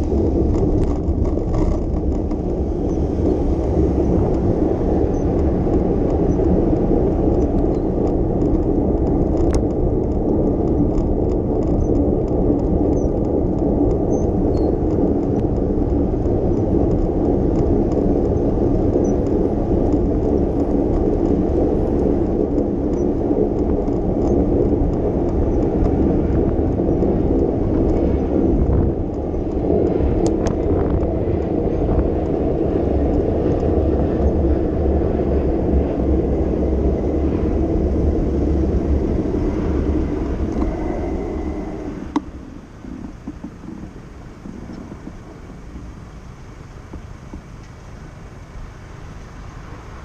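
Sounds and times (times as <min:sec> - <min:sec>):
wind and road rumble: 0:00.0 - 0:50.0.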